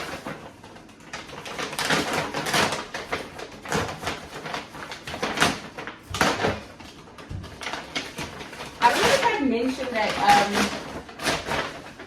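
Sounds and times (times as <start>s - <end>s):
grocery packaging rustling: 0.0s - 12.0s.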